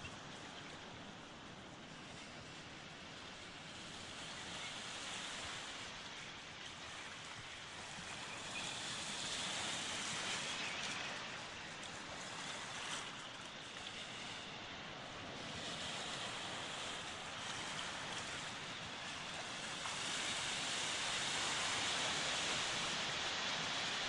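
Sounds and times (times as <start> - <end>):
ocean surf washing: 0.0 - 24.0.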